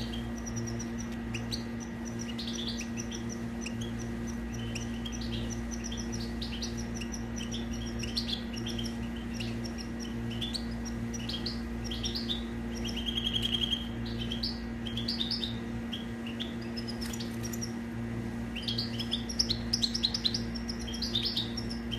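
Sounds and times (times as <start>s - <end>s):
goldfinch twittering song: 0.0s - 21.9s
low hum: 0.0s - 21.9s.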